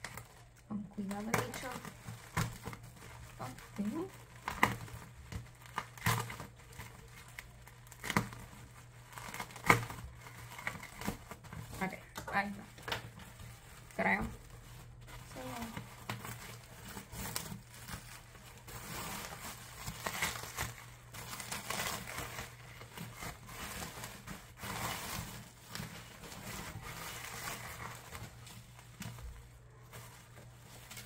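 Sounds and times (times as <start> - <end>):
bubble wrap crinkling and rustling: 0.0 - 31.0.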